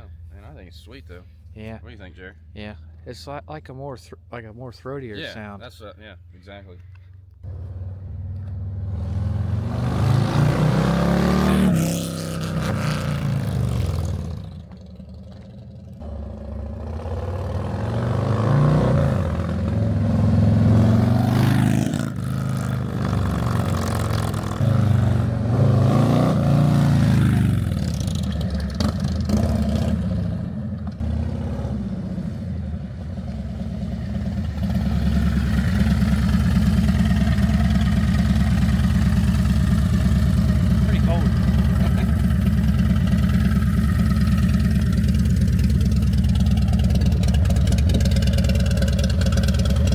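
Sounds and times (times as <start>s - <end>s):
motorcycle engine revving and idling: 7.4s - 49.9s.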